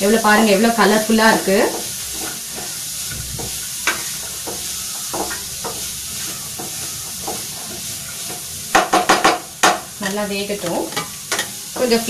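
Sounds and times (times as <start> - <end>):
vegetables sizzling in oil: 0.0 - 12.0
spatula scraping a pan: 1.1 - 12.0.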